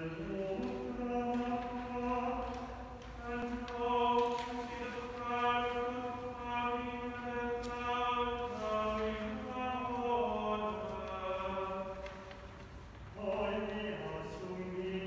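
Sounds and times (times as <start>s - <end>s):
unaccompanied voices chanting: 0.0s - 12.2s.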